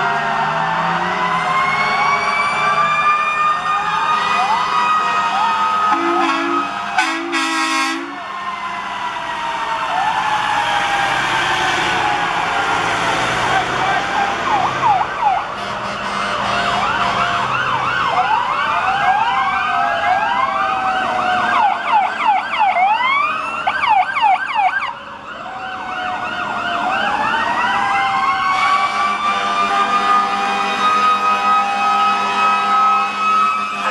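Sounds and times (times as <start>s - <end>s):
low falling siren tone: 0.0s - 15.9s, 16.5s - 33.9s
rising siren wail: 0.0s - 33.9s
siren yelp sweeps: 0.0s - 33.9s.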